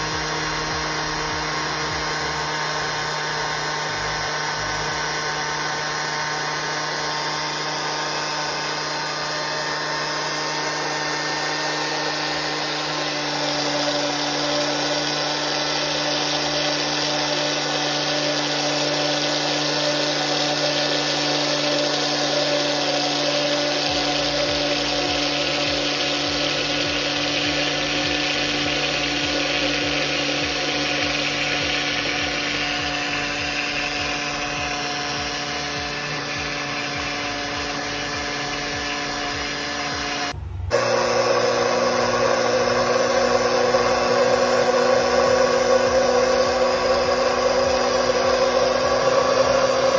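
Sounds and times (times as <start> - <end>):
blender motor whirring: 0.0 - 49.9.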